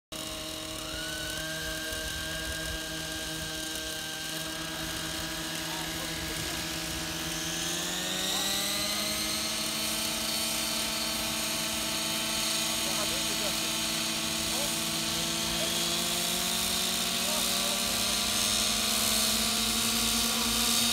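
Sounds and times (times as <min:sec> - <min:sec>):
model helicopter engine whine: 0:00.1 - 0:20.9.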